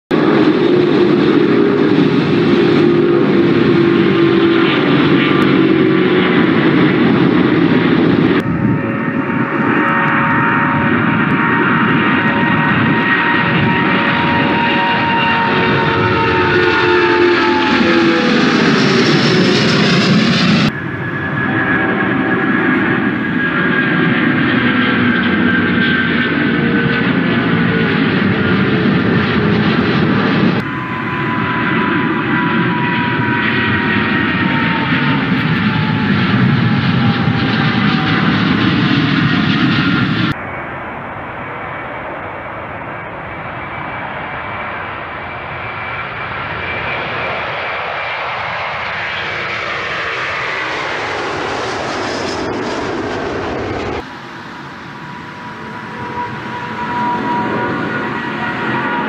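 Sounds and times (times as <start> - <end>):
jet engine roar at takeoff: 0.1 - 59.0
jet engines whining: 0.1 - 59.0.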